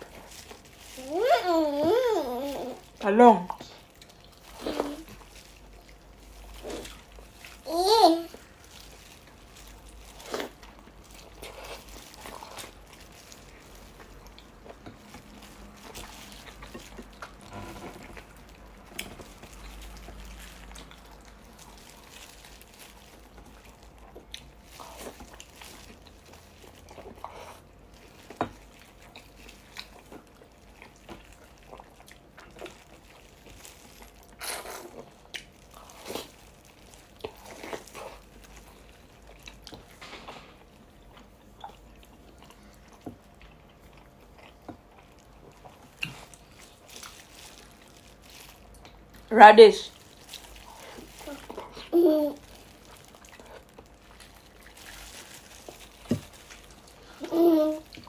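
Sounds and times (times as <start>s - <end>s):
person chewing vegetables: 0.0s - 49.3s, 49.9s - 58.0s.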